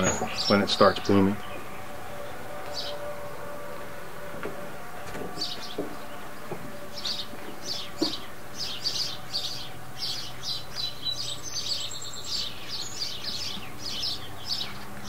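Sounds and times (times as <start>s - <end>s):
birds chirping: 0.0s - 15.0s
faint steady hum: 0.0s - 15.0s.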